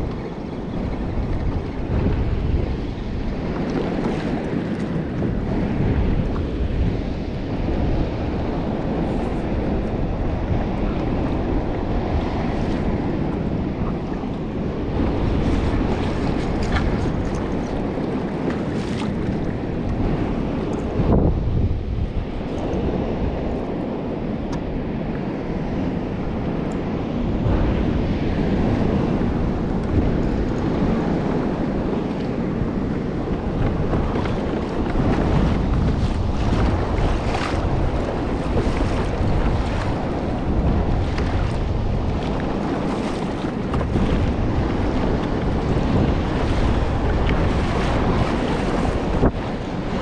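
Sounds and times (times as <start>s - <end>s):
water lapping against hull: 0.0s - 50.0s
wind buffeting microphone: 0.0s - 50.0s.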